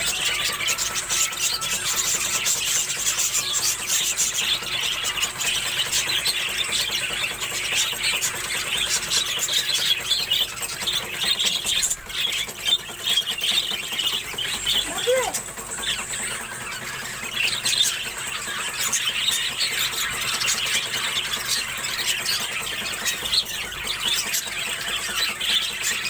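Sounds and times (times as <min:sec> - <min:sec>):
budgerigars chattering: 0:00.0 - 0:26.0.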